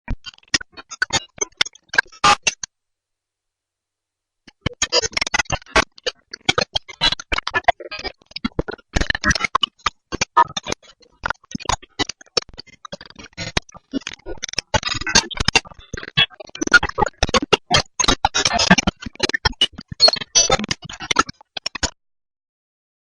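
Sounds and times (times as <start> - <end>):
digital glitch stuttering clicks: 0.1 - 2.7, 4.5 - 22.0.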